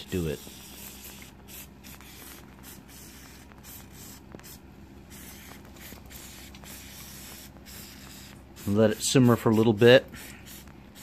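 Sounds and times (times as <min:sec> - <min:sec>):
aerosol can spraying: 0:00.0 - 0:11.0.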